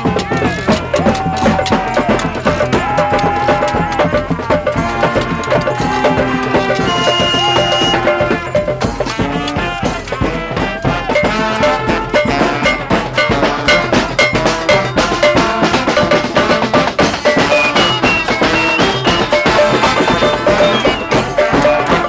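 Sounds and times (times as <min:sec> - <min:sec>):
drums and percussion beat: 0:00.0 - 0:22.0
horns playing a tune: 0:00.0 - 0:22.0.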